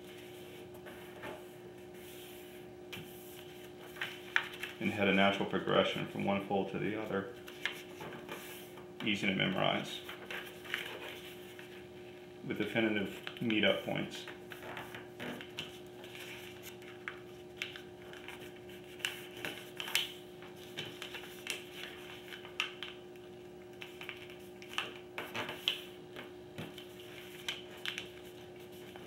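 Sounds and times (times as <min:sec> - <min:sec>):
paper folding and crinkling: 0:00.0 - 0:06.0, 0:07.4 - 0:08.8, 0:09.4 - 0:11.9, 0:12.6 - 0:29.0
steady hum: 0:00.0 - 0:29.0.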